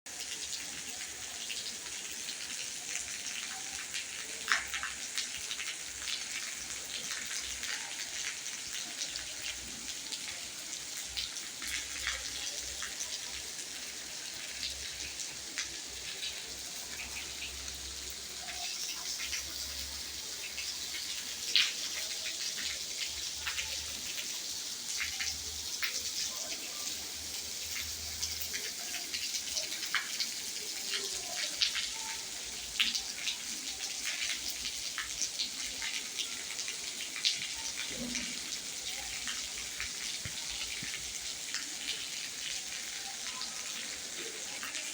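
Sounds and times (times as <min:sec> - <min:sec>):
rain pattering: 0:00.1 - 0:44.9.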